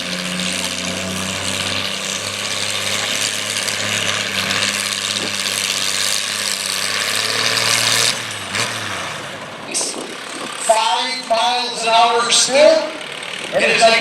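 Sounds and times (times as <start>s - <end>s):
sled scraping on dirt: 0.0s - 14.0s
tractor engine running under load: 0.0s - 14.0s.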